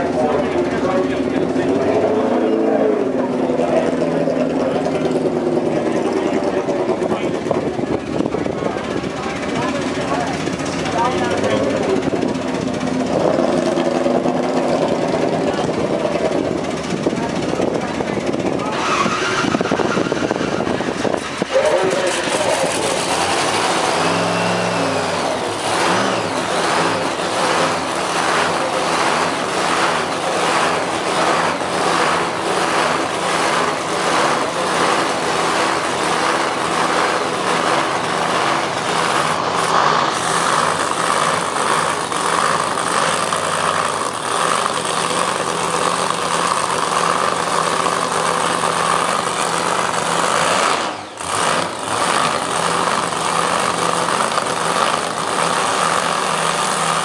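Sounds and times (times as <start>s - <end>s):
drag racing engine idling: 0.0s - 57.0s.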